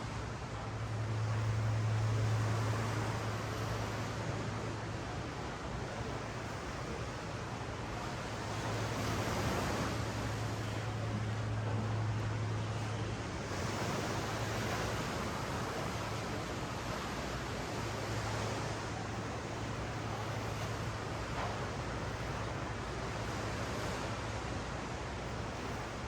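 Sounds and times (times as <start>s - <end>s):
ocean surf on a beach: 0.0s - 26.0s
steady low hum: 0.0s - 26.0s.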